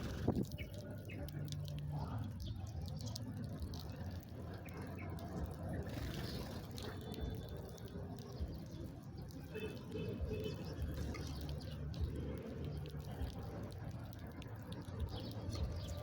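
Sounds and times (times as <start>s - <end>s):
small ticking sounds: 0.0s - 16.0s.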